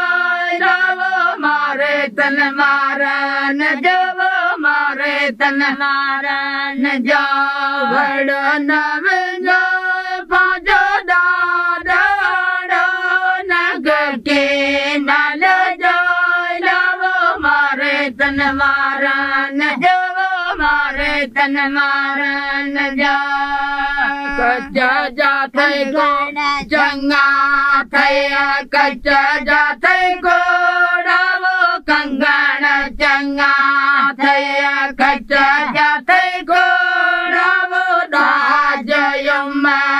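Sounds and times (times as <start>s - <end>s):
women singing together: 0.0s - 39.9s.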